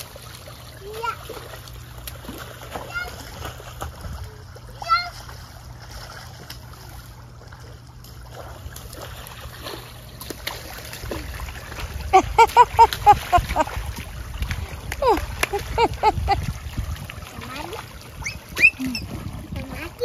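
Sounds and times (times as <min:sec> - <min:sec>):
water spraying and splashing: 0:00.0 - 0:20.0.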